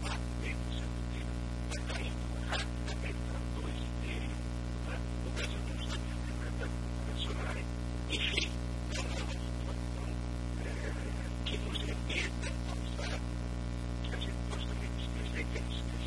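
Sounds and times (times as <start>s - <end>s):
faint indistinct speech: 0.0s - 13.3s, 14.0s - 16.0s
electrical mains hum: 0.0s - 16.0s.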